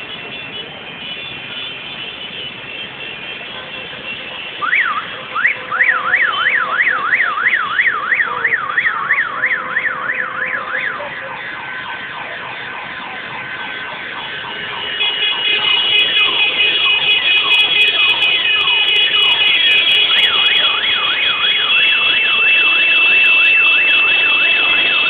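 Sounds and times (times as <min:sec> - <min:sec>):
electronic siren yelping: 0:04.6 - 0:25.0.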